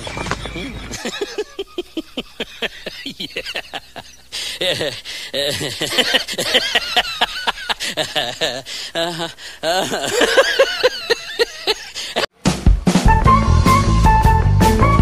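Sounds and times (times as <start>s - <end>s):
people laughing and giggling: 0.0s - 12.3s.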